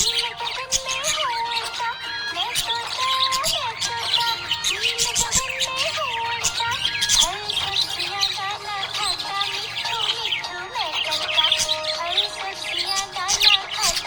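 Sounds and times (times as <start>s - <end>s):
background music: 0.0s - 14.0s
budgerigar twittering: 0.0s - 14.0s.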